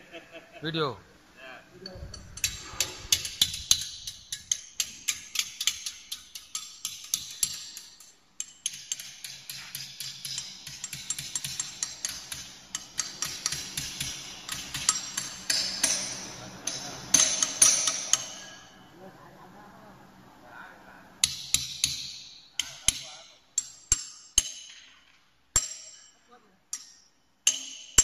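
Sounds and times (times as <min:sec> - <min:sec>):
hammer striking metal punch: 0:02.4 - 0:18.8, 0:21.2 - 0:26.2, 0:26.8 - 0:28.0.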